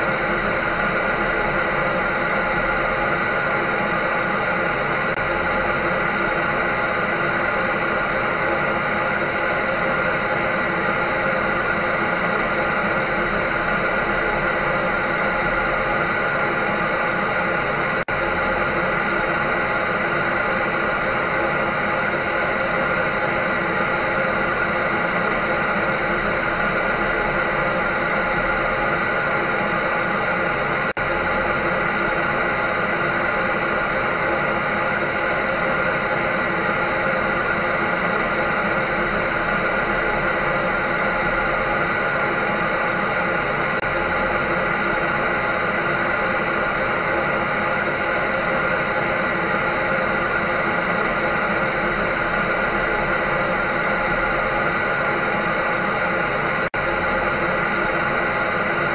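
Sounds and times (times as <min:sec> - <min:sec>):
electric dryer running: 0:00.0 - 0:58.9.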